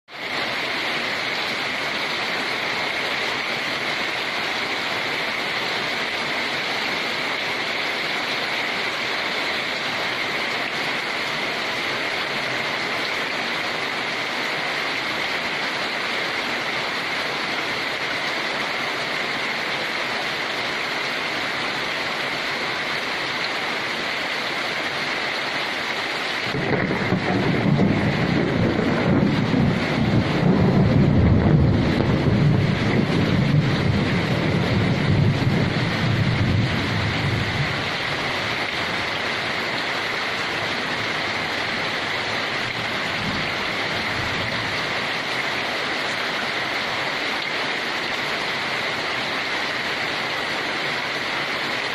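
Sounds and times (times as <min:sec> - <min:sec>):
heavy rainfall: 0:00.0 - 0:51.9.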